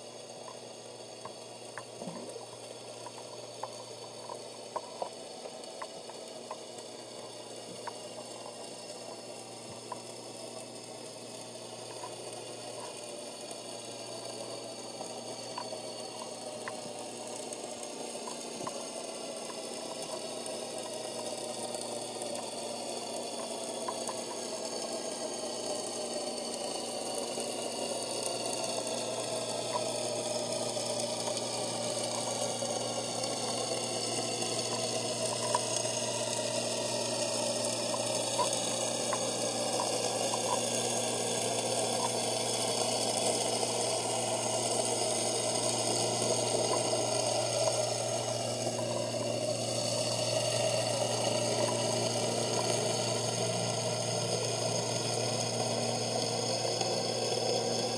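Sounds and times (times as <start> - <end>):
boat motor droning underwater: 0.0 - 57.9
constant low hum: 0.0 - 57.9
faint clicks: 0.2 - 57.9.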